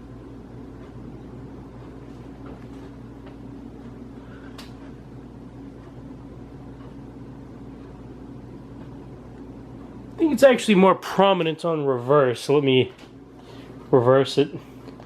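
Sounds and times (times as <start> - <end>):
ceiling fan humming and grinding: 0.0 - 15.0.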